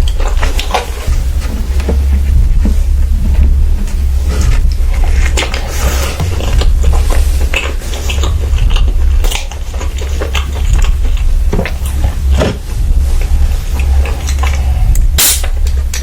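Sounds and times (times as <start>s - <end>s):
biting and chewing: 0.0s - 16.0s
steady low hum: 0.0s - 16.0s.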